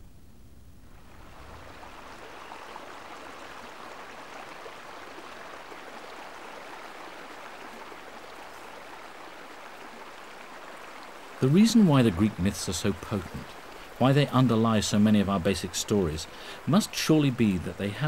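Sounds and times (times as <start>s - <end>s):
stream running water: 1.0s - 18.0s.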